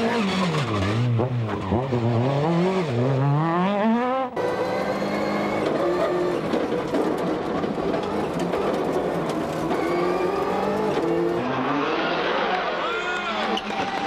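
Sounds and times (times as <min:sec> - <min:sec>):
rally car engine revving: 0:00.0 - 0:13.9.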